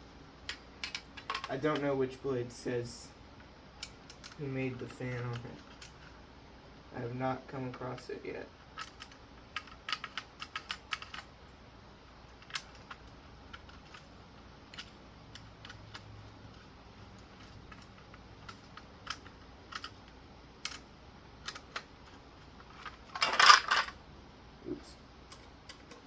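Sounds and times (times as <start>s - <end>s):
fan blades clicking and tapping: 0.4s - 2.1s, 2.9s - 6.2s, 7.0s - 11.3s, 12.2s - 24.0s, 25.2s - 26.0s.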